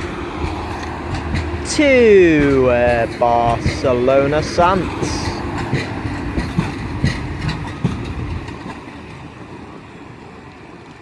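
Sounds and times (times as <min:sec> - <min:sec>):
train rumbling: 0:00.0 - 0:11.0
train wheels clicking over rail joints: 0:00.0 - 0:11.0.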